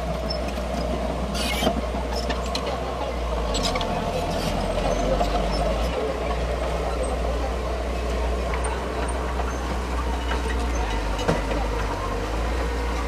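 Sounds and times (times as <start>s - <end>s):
diesel earthmover engine running: 0.0s - 13.0s.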